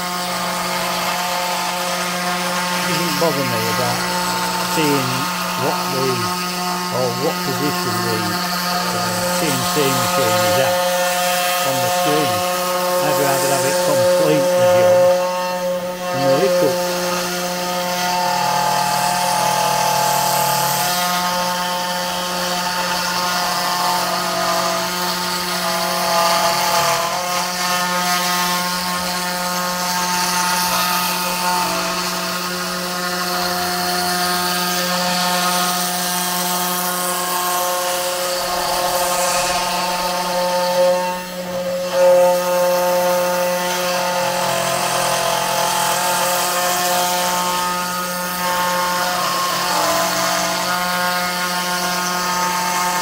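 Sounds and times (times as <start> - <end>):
router spindle whining cutting wood: 0.0 - 53.0.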